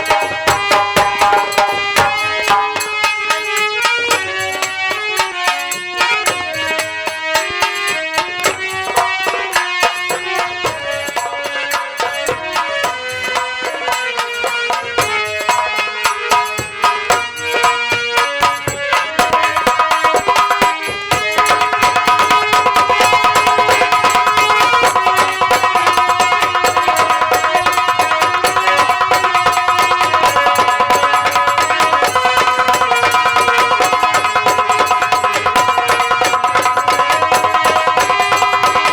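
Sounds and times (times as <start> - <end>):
hand drums beating: 0.0 - 38.9.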